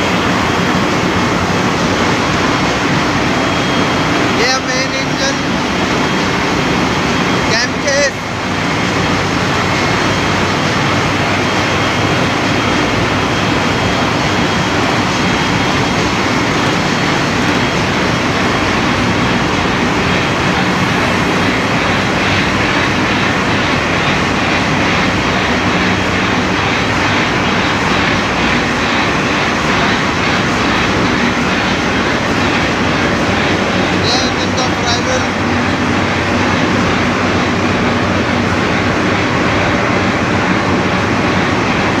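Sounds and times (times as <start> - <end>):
engine room machinery drone: 0.0 - 42.0.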